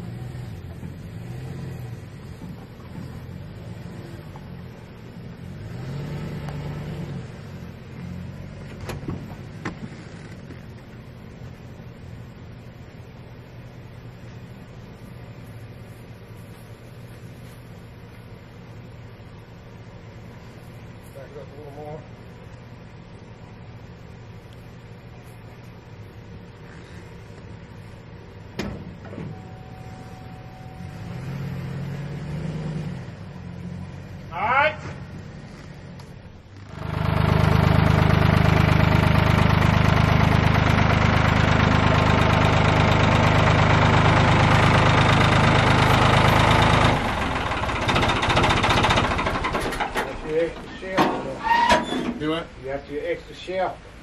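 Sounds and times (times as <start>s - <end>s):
pickup truck engine running: 0.0s - 54.0s.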